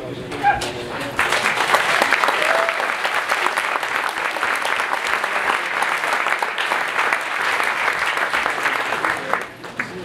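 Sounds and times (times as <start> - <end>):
audience applauding: 1.1 - 10.0.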